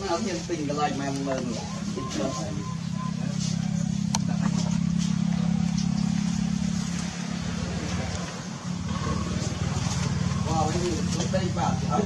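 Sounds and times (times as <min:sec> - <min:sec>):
engine running with pulsing hum: 0:01.3 - 0:12.0.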